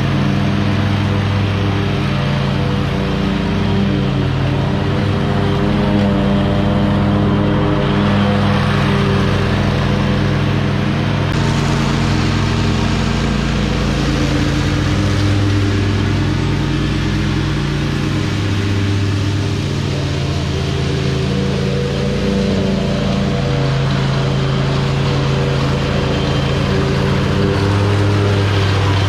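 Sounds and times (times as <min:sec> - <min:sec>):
mower engine running: 0:00.0 - 0:29.0.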